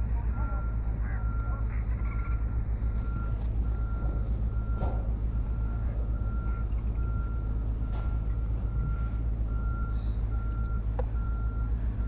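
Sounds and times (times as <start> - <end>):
low engine rumble: 0.0 - 12.0
vehicle reversing alarm beeping: 0.0 - 12.0.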